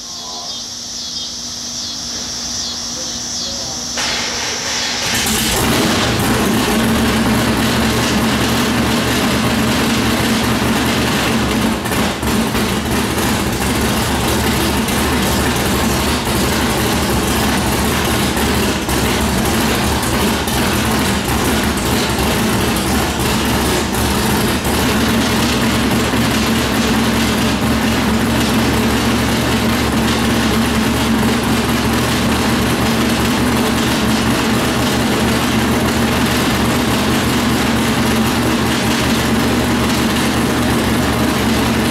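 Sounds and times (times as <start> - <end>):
loud engine idling: 0.0 - 41.9.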